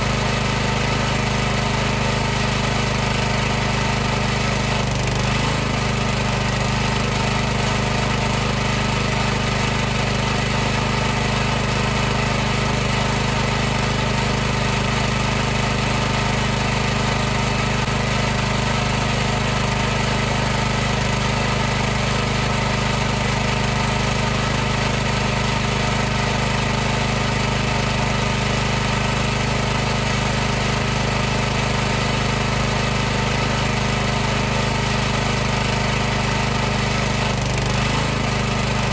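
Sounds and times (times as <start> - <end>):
pressure washer motor humming: 0.0 - 38.9.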